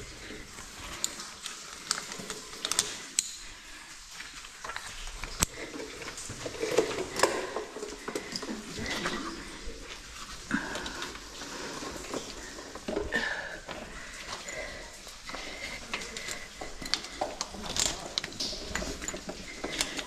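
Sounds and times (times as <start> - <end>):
clicks and knocks of handling gear: 0.6 - 3.4, 4.2 - 9.4, 11.8 - 20.0.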